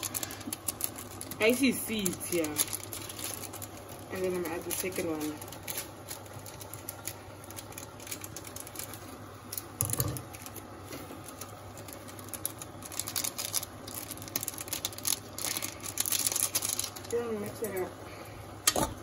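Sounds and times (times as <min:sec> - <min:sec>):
plastic sachet crinkling: 0:00.0 - 0:17.8.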